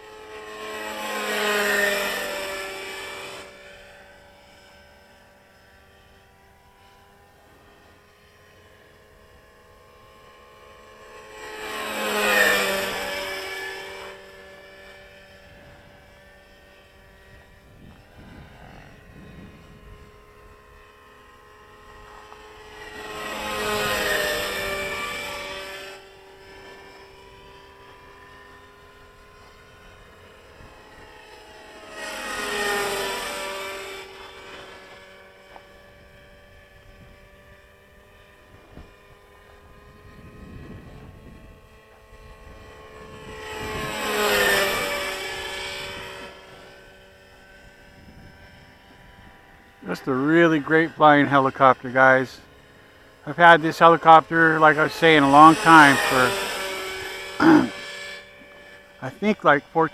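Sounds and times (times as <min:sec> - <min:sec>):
model helicopter flying past: 0:00.0 - 0:59.9.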